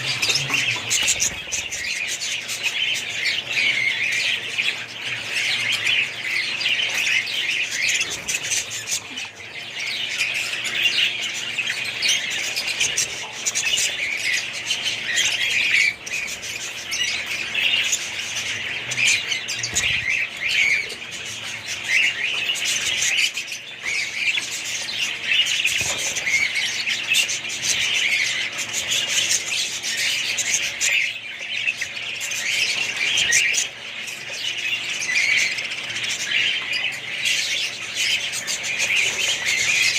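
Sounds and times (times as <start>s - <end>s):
pet birds chirping and squawking: 0.0s - 39.9s.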